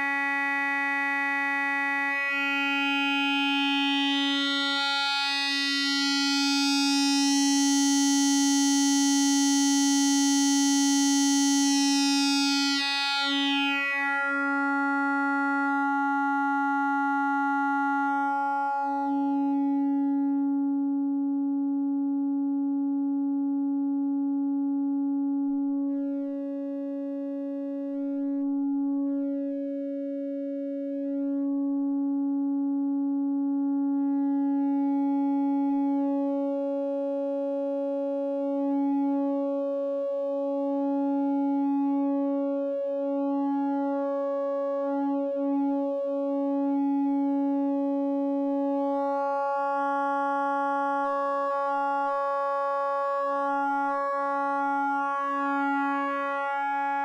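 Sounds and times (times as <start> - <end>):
synth sine tone with shifting timbre: 0.0 - 57.0.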